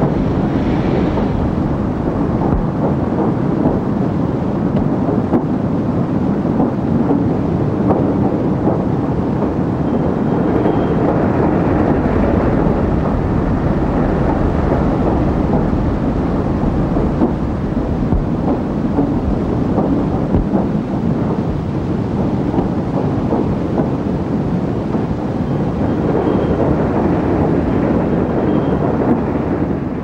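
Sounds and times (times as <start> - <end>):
steam locomotive rumbling: 0.0 - 30.0.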